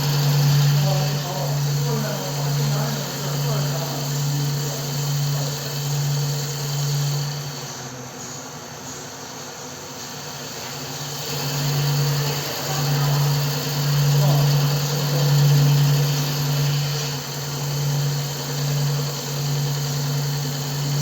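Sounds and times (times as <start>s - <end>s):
hissing cutting noise: 0.0s - 7.9s, 9.9s - 21.0s
lathe motor hum: 0.0s - 21.0s.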